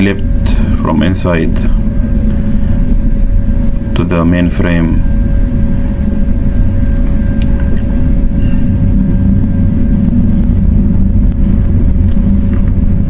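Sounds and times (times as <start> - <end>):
faint machinery hum: 0.0 - 13.0
low rumble: 0.0 - 13.0.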